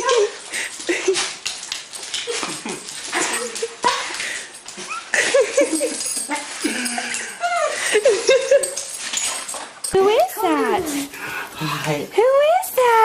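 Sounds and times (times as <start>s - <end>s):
rustling of movement: 0.0s - 13.0s.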